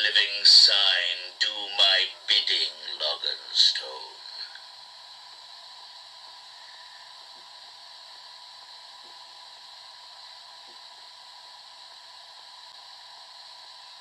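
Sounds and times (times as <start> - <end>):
steady tape hiss: 0.0 - 14.0
thin high whine: 0.0 - 14.0.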